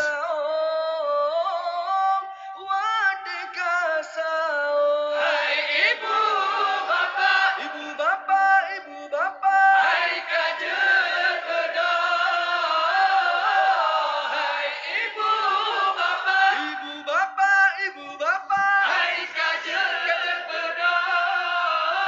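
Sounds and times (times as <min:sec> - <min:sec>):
lead voice singing: 0:00.0 - 0:22.0
men chanting into a microphone: 0:00.0 - 0:22.0.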